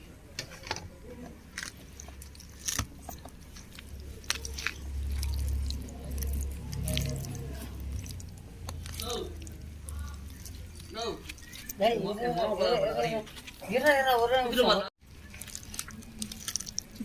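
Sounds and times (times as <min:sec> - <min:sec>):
hands squishing wet paste: 0:01.2 - 0:17.0.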